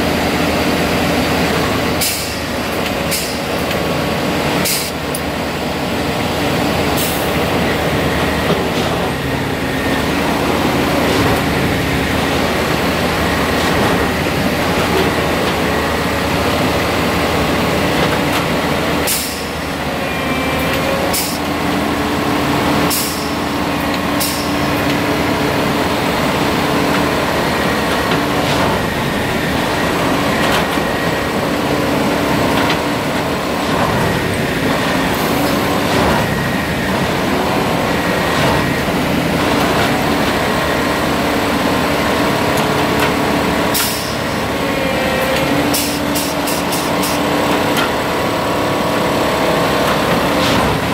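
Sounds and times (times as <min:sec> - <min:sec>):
diesel machine running: 0:00.0 - 0:50.9.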